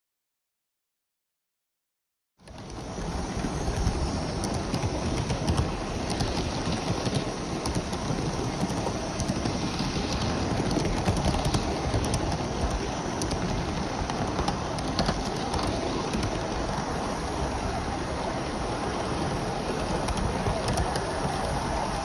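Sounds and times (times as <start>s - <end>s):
model train rolling rumble: 2.4s - 22.0s
wheels clicking on rails: 2.4s - 22.0s.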